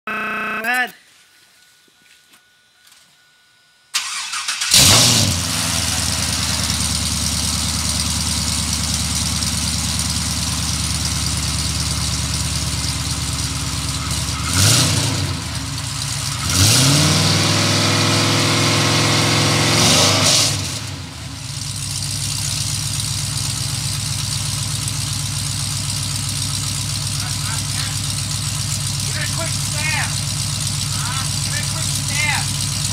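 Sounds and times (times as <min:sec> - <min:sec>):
car engine idling and revving: 0:04.0 - 0:32.9.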